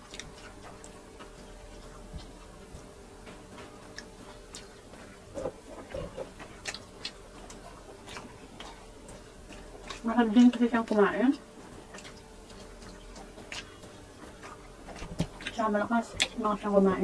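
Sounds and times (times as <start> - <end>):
chewing and biting sounds: 0.0 - 17.0
faint steady hum: 0.0 - 17.0.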